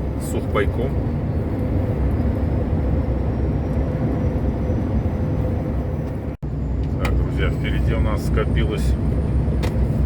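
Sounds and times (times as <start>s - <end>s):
truck engine and tyre rumble: 0.0s - 10.0s.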